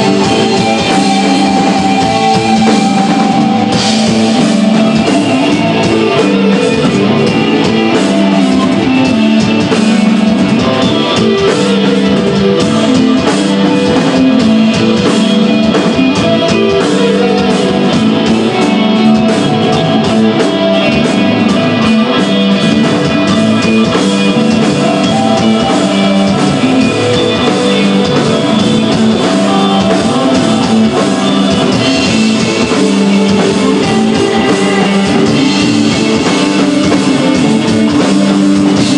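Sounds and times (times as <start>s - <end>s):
bass: 0.0s - 38.9s
drum kit: 0.0s - 38.9s
electric guitar: 0.0s - 38.9s.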